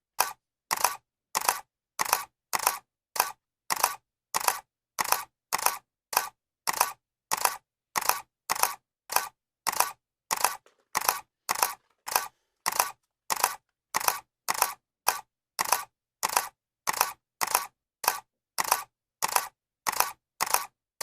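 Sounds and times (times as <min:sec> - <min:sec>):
camera shutter clicking: 0:00.7 - 0:20.7.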